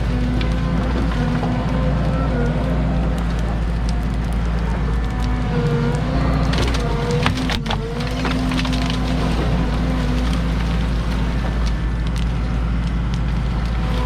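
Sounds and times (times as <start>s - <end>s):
excavator diesel engine running: 0.0s - 14.0s
wood cracking and splintering: 0.0s - 14.0s.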